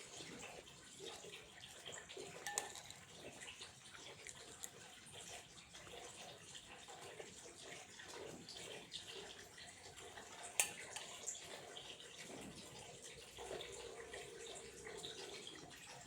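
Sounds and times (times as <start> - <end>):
water running and trickling: 0.0 - 16.0
water splashes and drips: 0.0 - 16.0.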